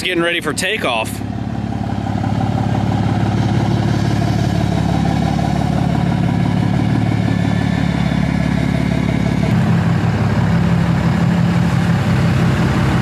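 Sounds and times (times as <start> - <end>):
diesel truck engine whining: 0.0 - 13.0.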